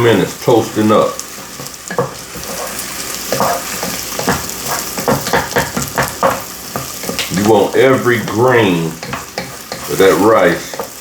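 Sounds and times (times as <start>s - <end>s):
rice sizzling in a pot: 0.0s - 11.0s
spoon scraping a pot: 1.3s - 8.1s, 8.9s - 11.0s.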